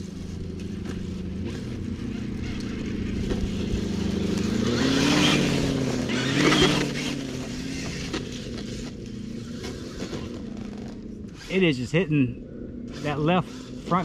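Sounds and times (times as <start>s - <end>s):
toy car electric motor whining: 0.0s - 11.7s, 12.9s - 14.0s.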